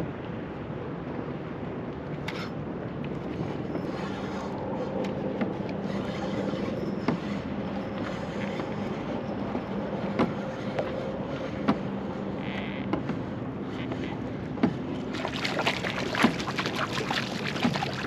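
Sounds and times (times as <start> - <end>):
water lapping at a hull: 2.2 - 18.0.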